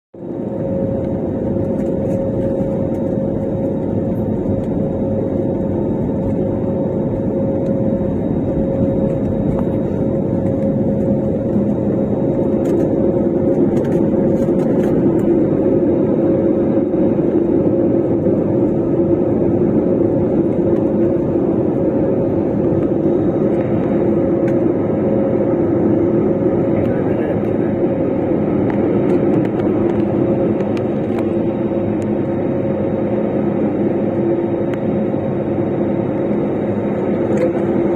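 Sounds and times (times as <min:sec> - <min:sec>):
airliner engines running: 0:00.2 - 0:37.9.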